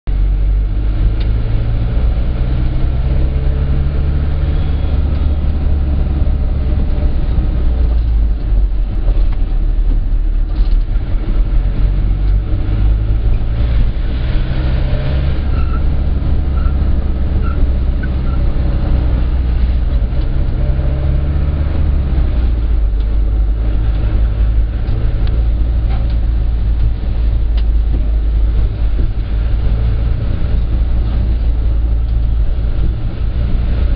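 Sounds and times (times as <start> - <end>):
minibus engine and road noise: 0.0 - 33.9.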